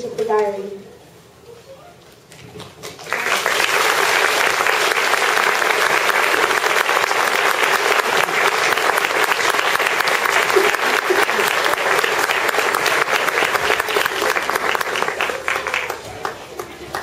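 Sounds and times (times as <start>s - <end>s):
audience applause: 2.8s - 17.0s.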